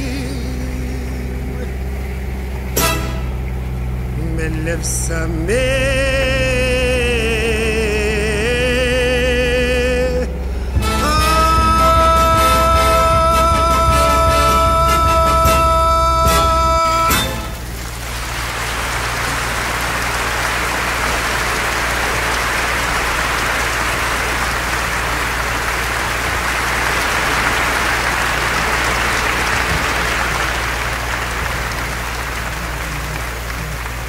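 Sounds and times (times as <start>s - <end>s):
heavy rain on water: 0.0s - 34.0s
low steady rumble: 0.0s - 34.0s.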